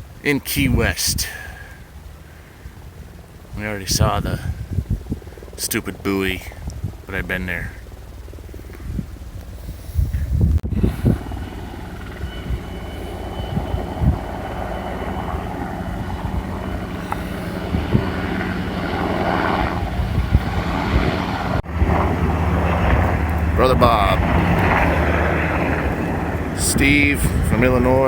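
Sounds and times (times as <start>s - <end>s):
low engine drone: 0.0s - 28.0s.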